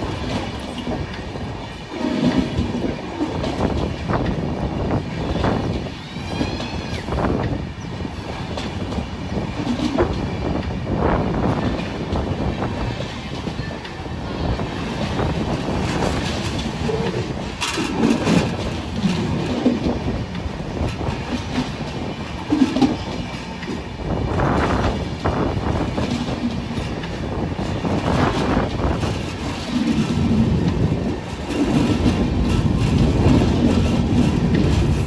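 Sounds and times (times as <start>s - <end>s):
train wheels clattering over rail joints: 0.0s - 35.0s.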